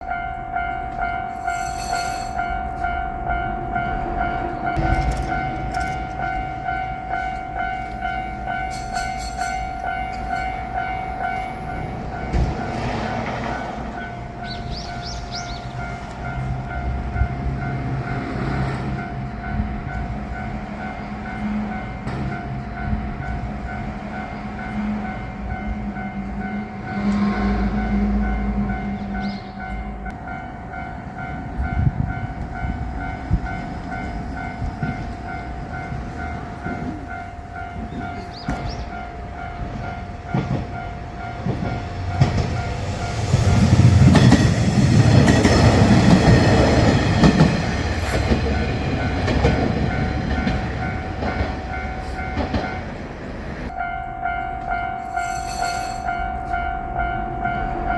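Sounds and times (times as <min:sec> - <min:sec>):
diesel railcar rumbling past: 0:00.0 - 0:57.9
level-crossing warning bell: 0:00.0 - 0:57.9.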